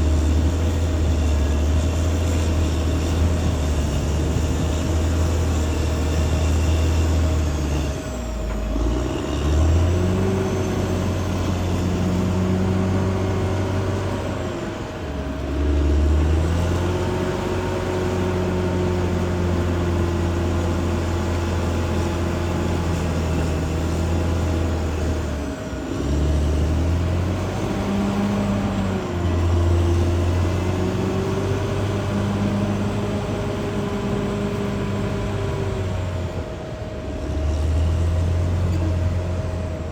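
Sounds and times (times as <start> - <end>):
bulldozer diesel engine running: 0.0 - 39.9
steady whine: 0.0 - 39.9.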